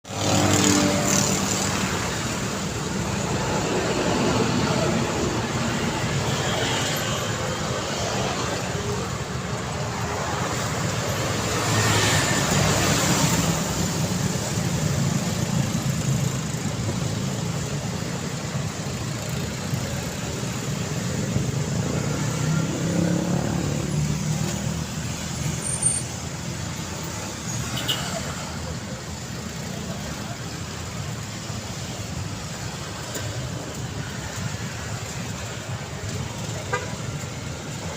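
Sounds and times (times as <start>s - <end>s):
vehicles passing: 0.0s - 37.9s.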